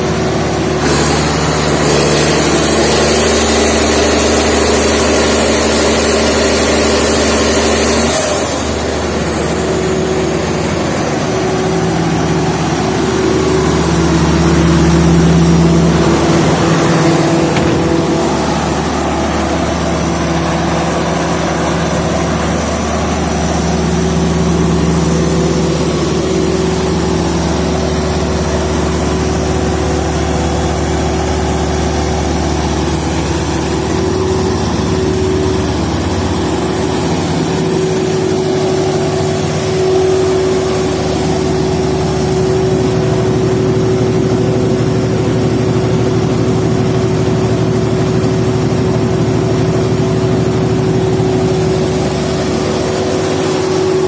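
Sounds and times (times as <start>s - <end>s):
diesel generator running: 0.0s - 54.0s
constant higher hum: 8.0s - 54.0s.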